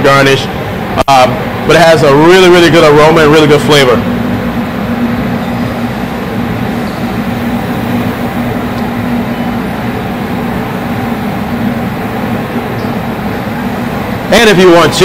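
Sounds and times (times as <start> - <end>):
constant low hum: 0.0 - 15.0
kitchen ventilation drone: 0.0 - 15.0.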